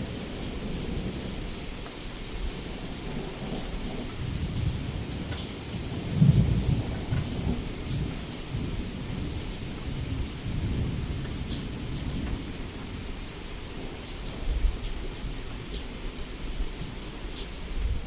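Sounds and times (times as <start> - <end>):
heavy rain: 0.0 - 18.0
low rolling thunder: 0.0 - 18.0.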